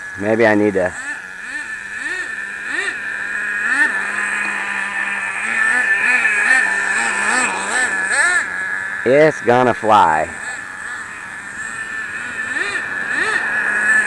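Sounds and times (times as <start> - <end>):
model car engine throttle blips: 0.0 - 14.0.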